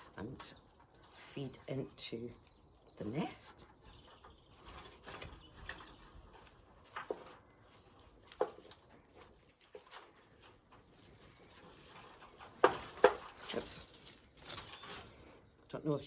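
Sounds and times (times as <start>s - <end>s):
twigs rustling and cracking: 0.0s - 16.0s.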